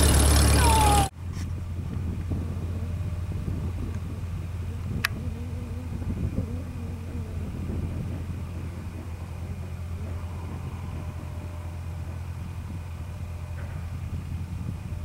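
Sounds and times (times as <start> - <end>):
airplane engine running: 0.0 - 15.0
distant airplane engine drone: 0.0 - 15.0.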